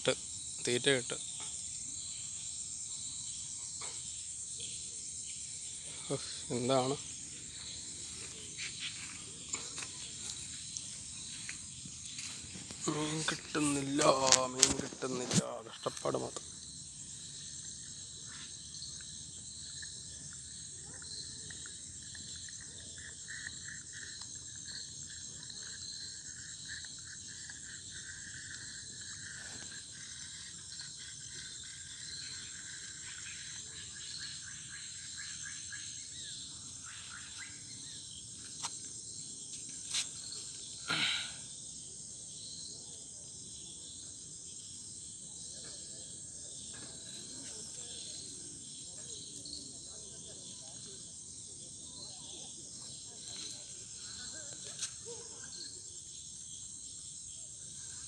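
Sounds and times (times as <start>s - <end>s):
insect pulsing trill: 0.0s - 58.0s
insects shrilling: 0.0s - 58.0s.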